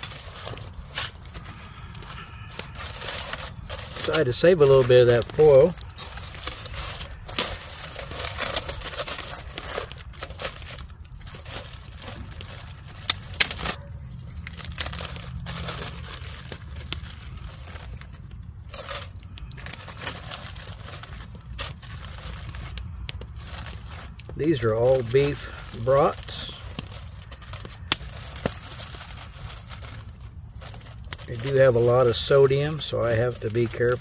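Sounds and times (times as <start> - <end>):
plastic bag and foil crinkling: 0.0 - 34.0.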